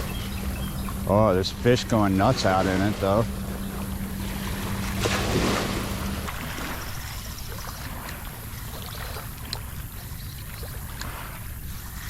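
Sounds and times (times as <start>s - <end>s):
cargo ship engine drone: 0.0s - 12.0s
waves washing against bank: 0.0s - 12.0s.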